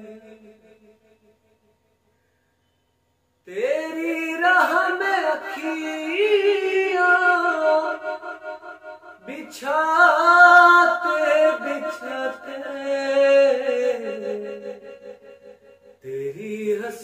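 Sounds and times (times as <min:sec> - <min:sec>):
man singing unaccompanied: 0:00.0 - 0:01.2, 0:03.4 - 0:17.0.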